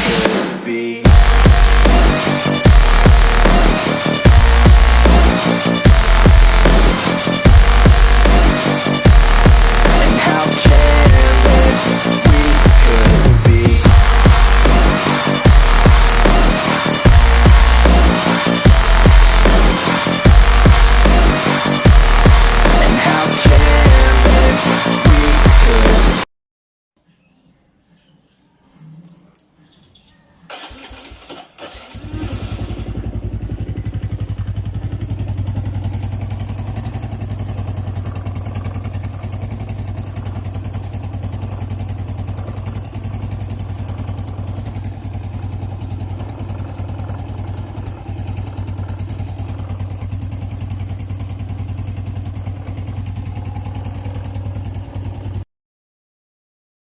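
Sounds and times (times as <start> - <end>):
motorcycle engine starting and idling: 1.0 - 26.2, 30.4 - 55.4.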